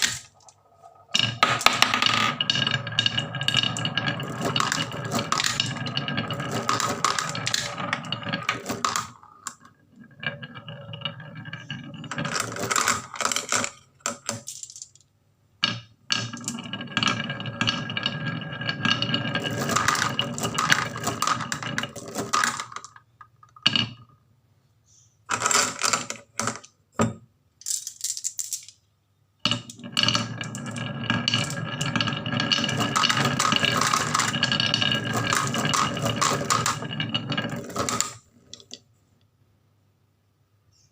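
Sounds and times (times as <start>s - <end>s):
marbles clattering down wooden run: 0.0s - 15.0s, 15.6s - 24.1s, 25.3s - 26.7s, 29.5s - 38.8s.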